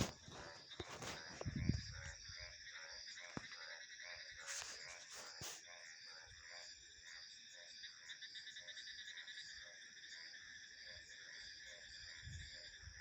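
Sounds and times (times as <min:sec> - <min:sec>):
frogs calling: 0:00.0 - 0:13.0
insects trilling: 0:00.0 - 0:13.0.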